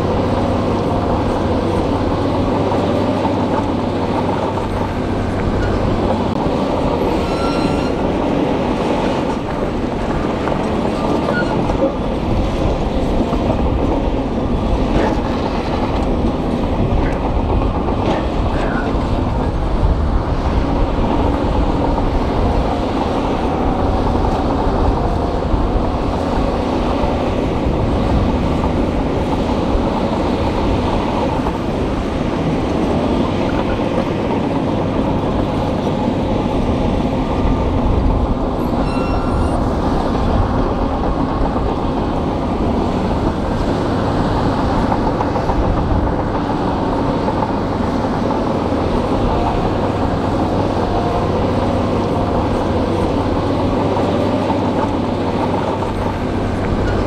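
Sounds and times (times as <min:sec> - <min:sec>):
bulldozer diesel engine running: 0:00.0 - 0:57.0
steel tracks clanking: 0:00.0 - 0:57.0.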